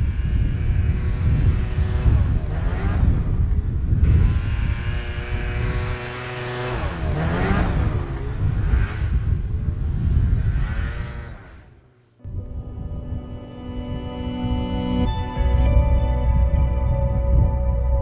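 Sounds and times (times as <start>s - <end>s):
snowmobile engine droning: 0.0s - 18.0s.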